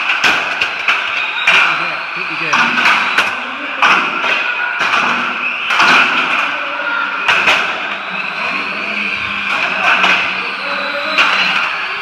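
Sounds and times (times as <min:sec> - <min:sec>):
model car motors whining: 0:00.0 - 0:12.0.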